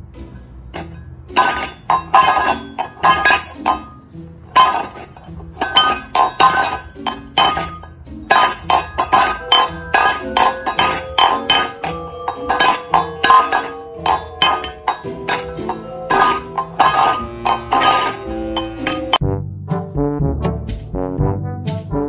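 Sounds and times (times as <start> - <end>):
metal bowl clanking on windowsill: 0.8 - 19.2.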